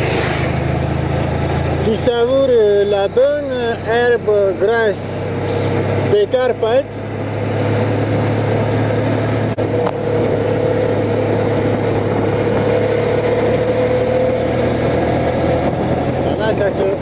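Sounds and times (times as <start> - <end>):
motorcycle engine humming: 0.0 - 17.0
wind and road noise: 0.0 - 17.0.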